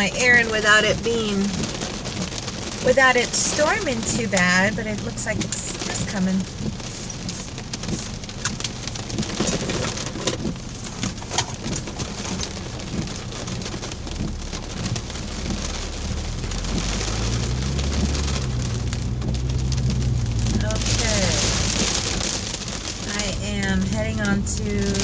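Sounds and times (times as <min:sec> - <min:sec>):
car engine hum and road noise: 0:00.0 - 0:25.0
rain pattering on car: 0:00.0 - 0:25.0.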